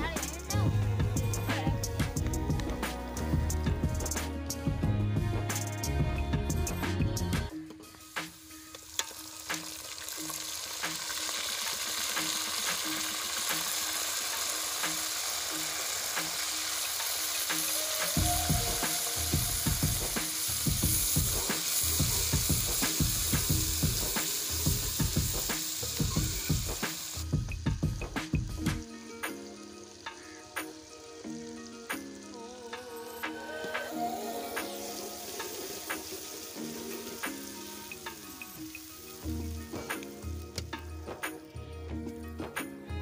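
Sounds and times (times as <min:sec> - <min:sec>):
onions sizzling in oil: 0:00.0 - 0:42.7.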